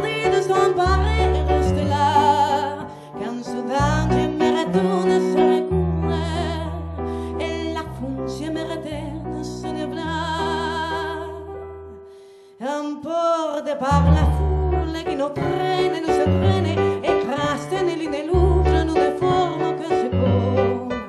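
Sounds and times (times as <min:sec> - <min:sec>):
woman singing with vibrato: 0:00.0 - 0:11.5, 0:12.6 - 0:21.0
keyboard piano accompaniment: 0:00.0 - 0:12.5, 0:13.7 - 0:21.0.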